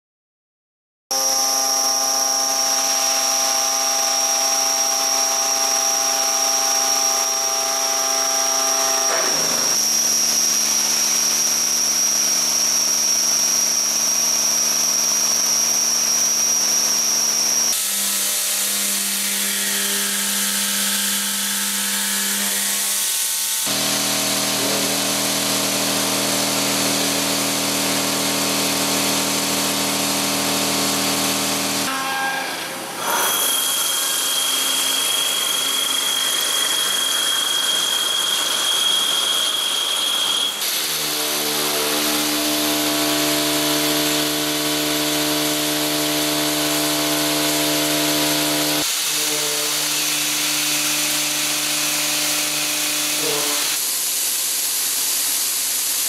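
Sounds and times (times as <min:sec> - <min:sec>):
milling machine cutting steel: 0:01.2 - 0:12.0, 0:17.3 - 0:53.9.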